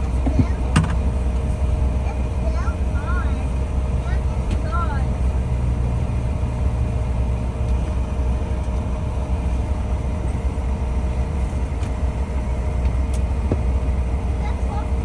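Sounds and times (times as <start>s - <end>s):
jet engines idling low rumble: 0.0s - 15.0s.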